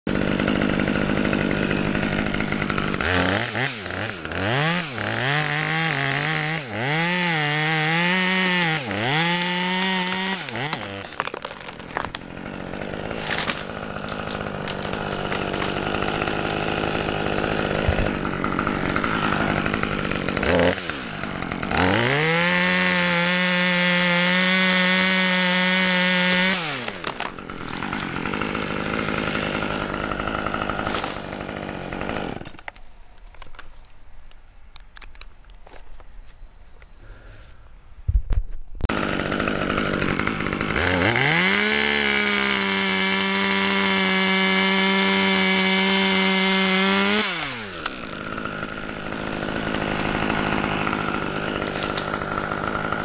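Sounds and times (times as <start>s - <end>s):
chainsaw cutting wood: 0.1s - 32.8s, 38.3s - 53.0s.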